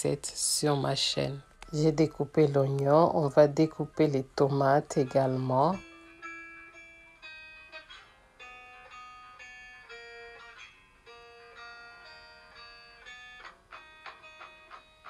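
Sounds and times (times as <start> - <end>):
plucked-string melody: 0.8 - 15.0.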